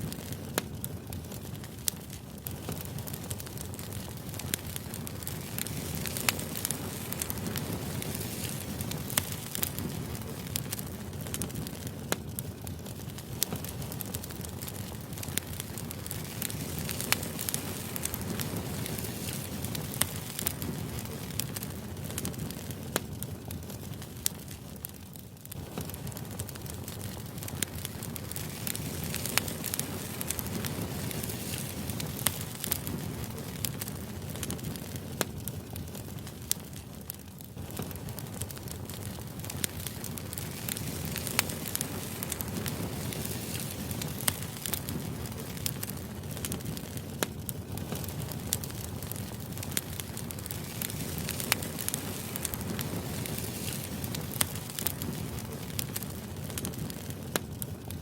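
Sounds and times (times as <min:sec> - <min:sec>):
irregular crackles and clicks: 0:00.0 - 0:58.0.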